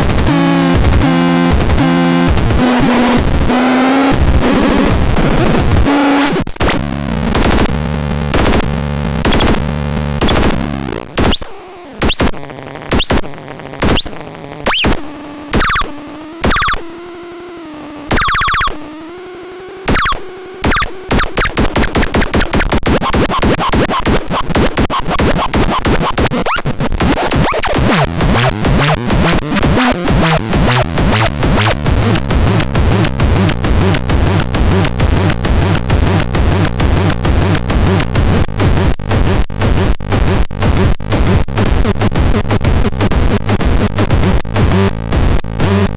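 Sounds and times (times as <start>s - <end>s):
experimental synthesizer rhythm: 0.0s - 45.9s.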